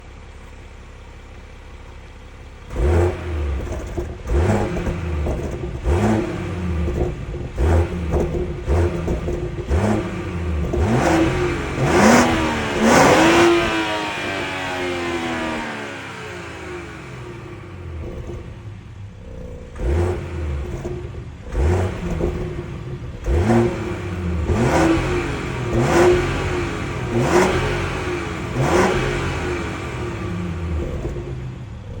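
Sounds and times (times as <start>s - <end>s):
car engine revving: 2.6s - 32.0s.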